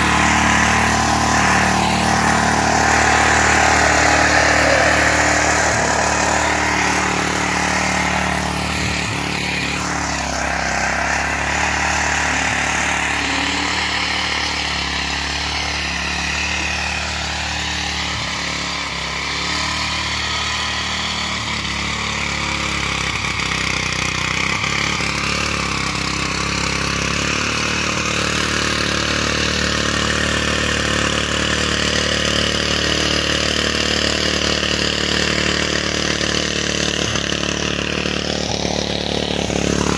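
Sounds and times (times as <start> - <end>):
rotary tiller engine running: 0.0 - 39.9.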